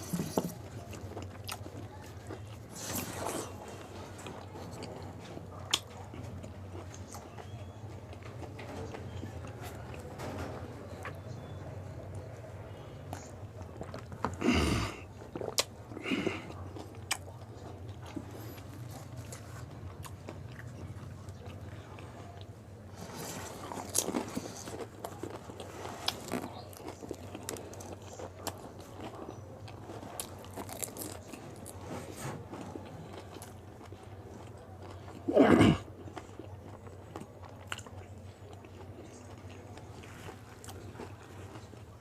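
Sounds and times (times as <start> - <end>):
chewing and crunching: 0.0 - 42.0.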